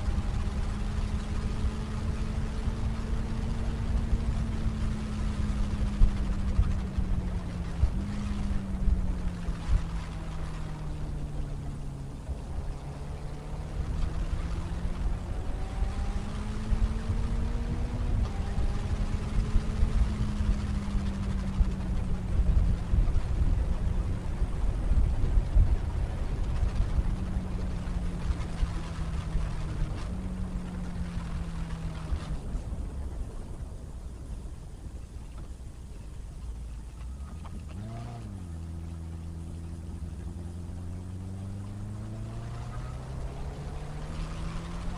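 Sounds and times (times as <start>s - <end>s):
motorcycle engine running: 0.0s - 33.8s, 35.2s - 44.9s
wind rush on microphone: 0.0s - 44.9s.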